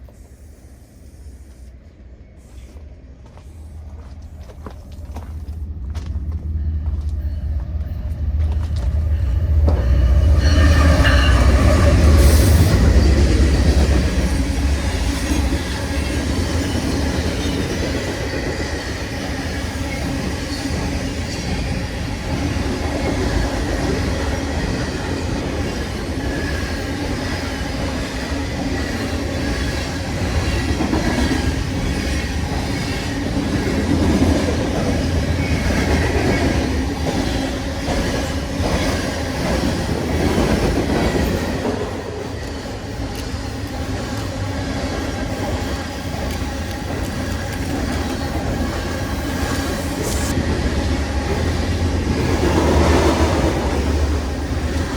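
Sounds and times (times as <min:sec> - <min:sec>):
freight train wheels on rail: 0:00.0 - 0:54.9.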